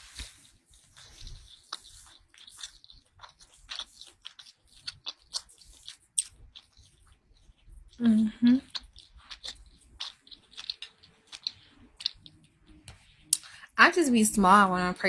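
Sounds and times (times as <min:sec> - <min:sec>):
person chewing food: 0:00.0 - 0:13.7.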